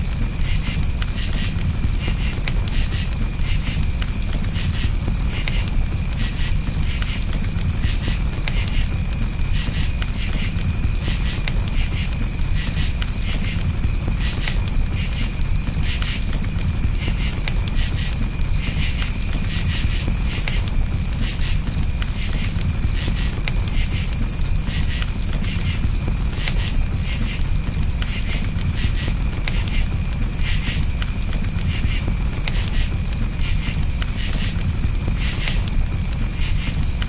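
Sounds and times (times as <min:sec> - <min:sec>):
campfire crackling: 0:00.0 - 0:37.0
crickets chirping: 0:00.0 - 0:37.0.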